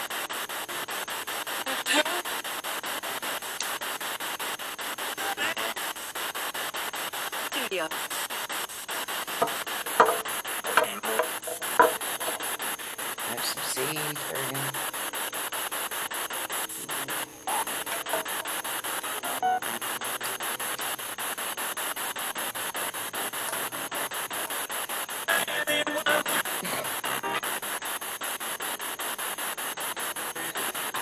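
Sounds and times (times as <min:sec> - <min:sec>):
chopped radio static: 0:00.0 - 0:31.0
snatches of broadcast sound: 0:00.0 - 0:31.0.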